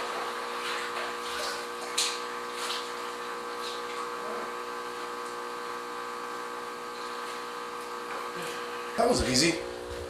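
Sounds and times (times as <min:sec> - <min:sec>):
electric motor hum: 0:01.6 - 0:10.0.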